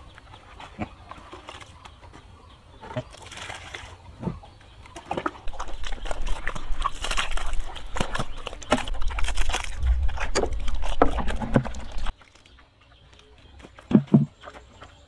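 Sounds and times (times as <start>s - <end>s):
pig smacking and chomping: 2.8s - 15.0s.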